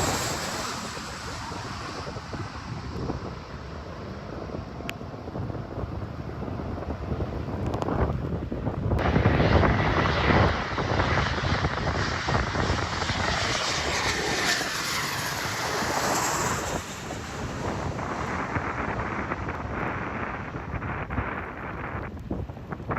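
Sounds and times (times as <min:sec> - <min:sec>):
airplane engines running loud: 0:00.0 - 0:22.9.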